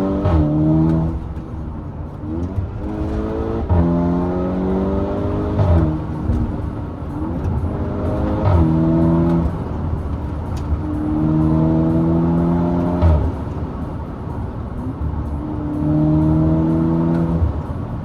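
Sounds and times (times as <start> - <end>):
car engine revving hard: 0.0 - 1.5, 2.2 - 13.9, 14.8 - 18.0.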